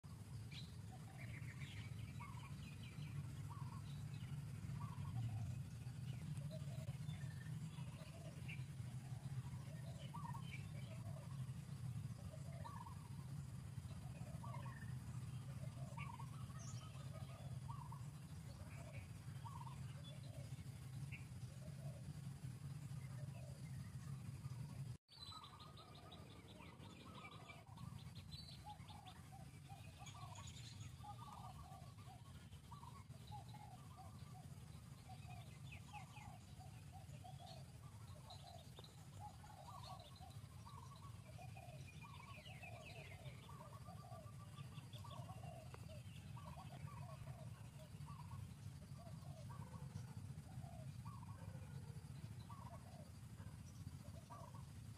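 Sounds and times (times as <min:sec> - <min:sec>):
birds chirping: 0:00.0 - 0:54.9
low hum: 0:00.0 - 0:54.9
low steady rumble: 0:00.0 - 0:54.9.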